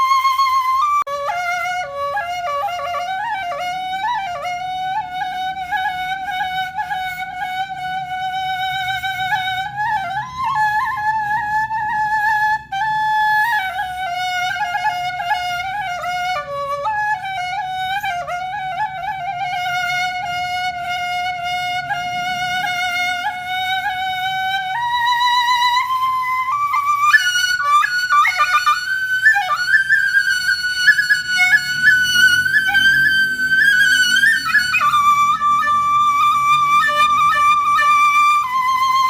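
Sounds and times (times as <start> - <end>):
sliding ornamented melody: 0.0 - 39.0.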